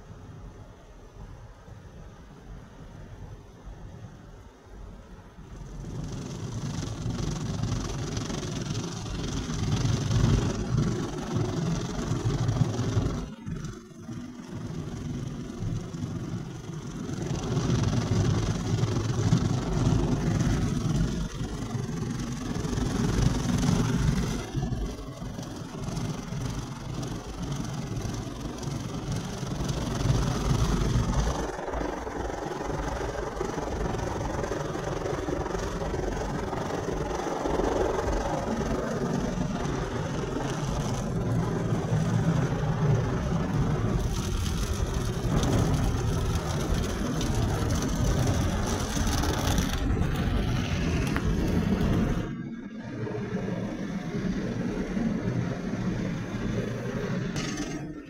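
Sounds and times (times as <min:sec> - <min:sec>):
water jets spraying car: 0:05.4 - 0:52.3.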